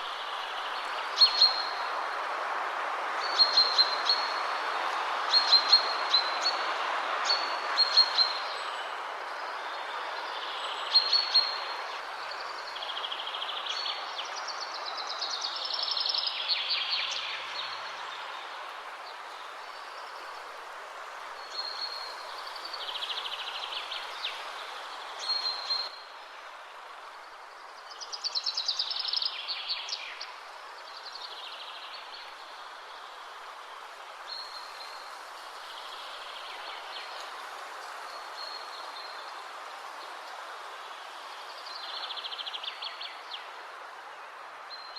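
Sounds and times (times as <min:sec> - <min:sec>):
steady outdoor hiss: 0:00.0 - 0:44.9.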